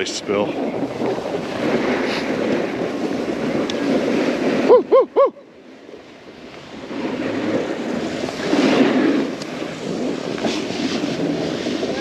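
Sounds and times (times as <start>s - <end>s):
snowboard scraping over snow: 0.0s - 12.0s
wind buffeting microphone: 0.0s - 12.0s.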